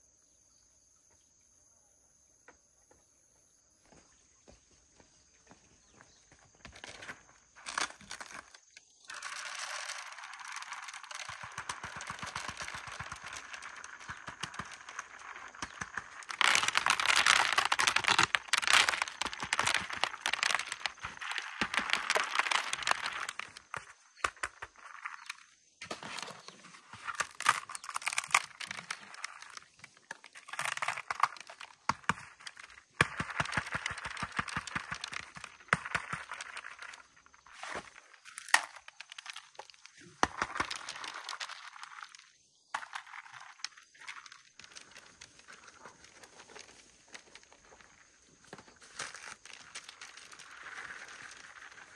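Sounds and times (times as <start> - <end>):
seeds rattling in dried gourds: 5.8 - 51.9.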